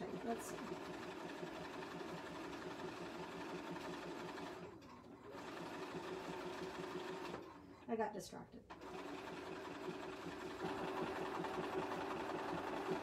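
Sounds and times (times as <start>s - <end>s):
sewing machine stitching: 0.0s - 7.8s, 8.7s - 13.0s.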